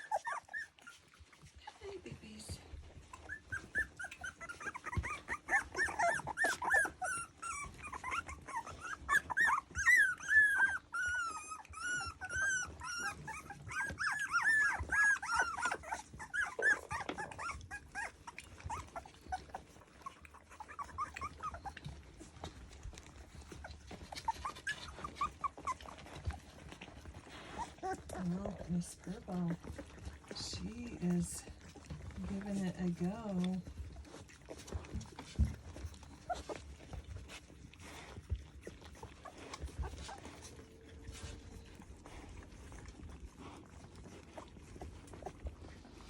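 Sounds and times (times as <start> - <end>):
puppies whining and squeaking: 0.0 - 46.0.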